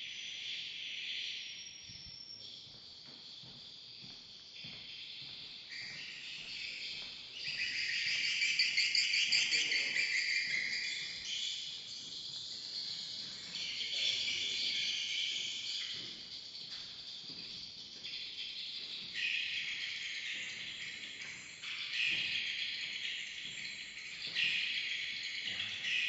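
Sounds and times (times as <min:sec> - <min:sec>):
birds twittering: 0:04.6 - 0:26.0.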